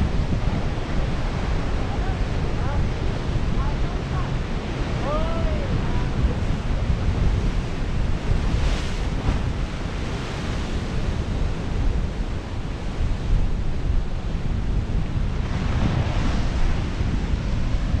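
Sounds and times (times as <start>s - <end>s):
surf washing over rocks: 0.0s - 18.0s
wind rumbling on microphone: 0.0s - 18.0s.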